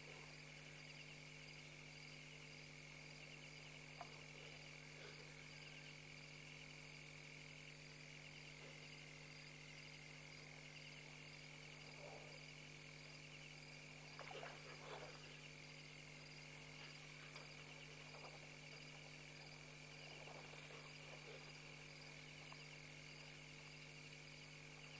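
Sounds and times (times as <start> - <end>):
frogs croaking: 0.0 - 24.9
insects trilling: 0.0 - 24.9
low electrical hum: 0.0 - 24.9.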